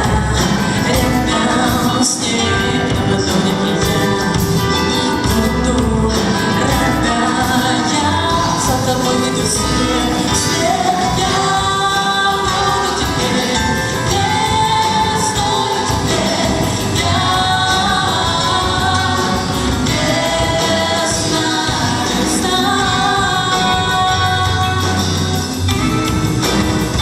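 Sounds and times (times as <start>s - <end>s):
women singing together: 0.0s - 25.2s
band playing steady beat: 0.0s - 27.0s.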